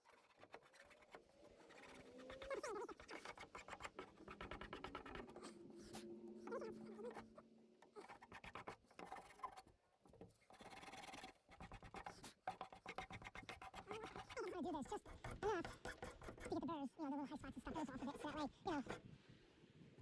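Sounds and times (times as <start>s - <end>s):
hand file scraping wood: 0.0s - 16.7s, 17.5s - 19.0s.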